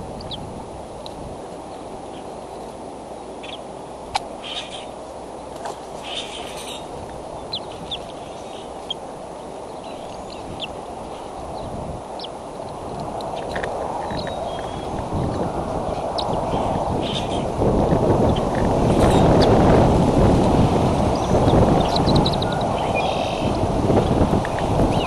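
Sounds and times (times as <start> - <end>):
low outdoor rushing noise: 0.0 - 25.0.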